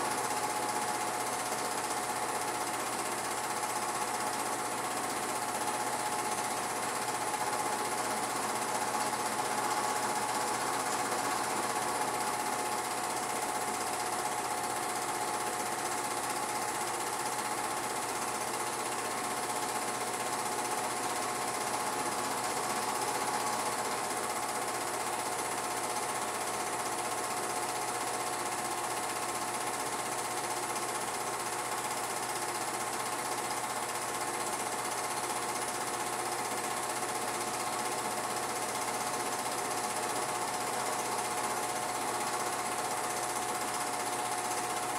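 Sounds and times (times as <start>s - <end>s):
film projector whirring: 0.0s - 44.9s.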